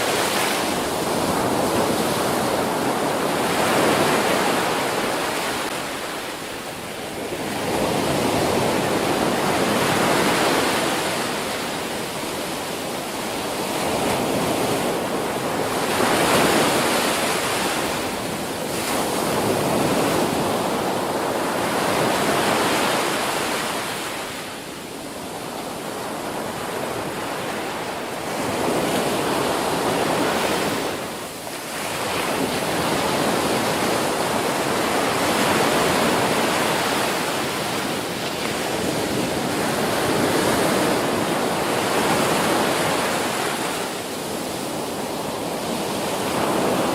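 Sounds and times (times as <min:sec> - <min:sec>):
waves breaking and washing in: 0:00.0 - 0:46.9.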